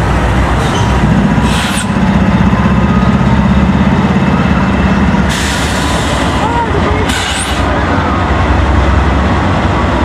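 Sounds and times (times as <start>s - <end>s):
diesel locomotive droning: 0.0s - 10.0s
rushing rail noise: 0.0s - 10.0s.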